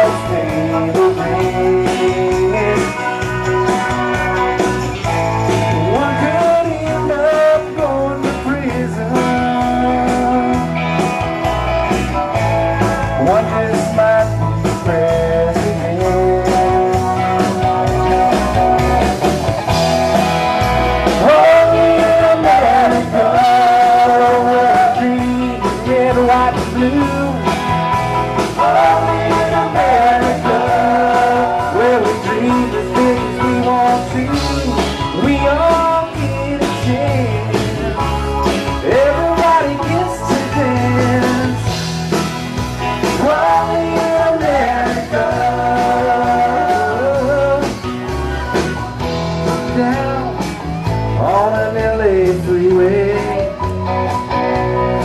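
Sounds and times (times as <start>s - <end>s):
live rock country band: 0.0s - 55.0s.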